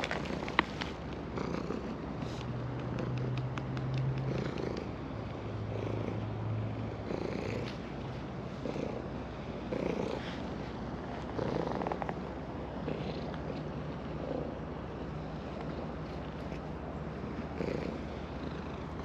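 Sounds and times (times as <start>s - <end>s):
cat purring: 0.0s - 7.8s, 8.6s - 19.0s.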